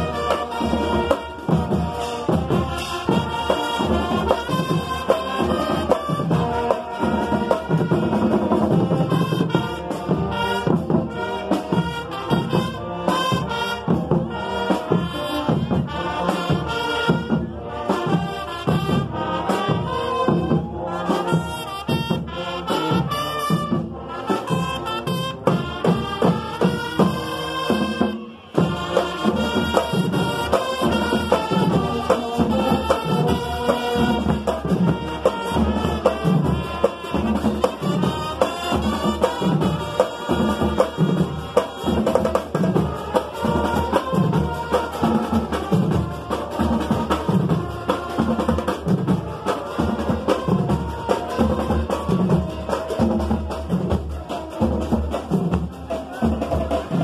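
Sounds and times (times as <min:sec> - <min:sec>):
brass section playing: 0:00.0 - 0:57.0
marching drums: 0:00.0 - 0:57.0.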